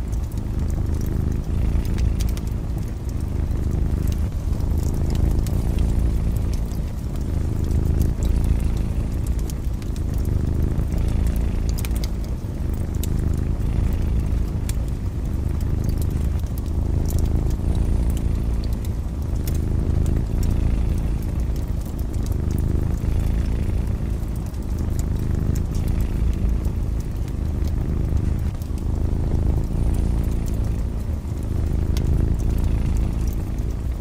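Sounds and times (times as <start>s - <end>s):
cat purring: 0.0s - 34.0s
fireplace crackling and popping: 0.0s - 34.0s.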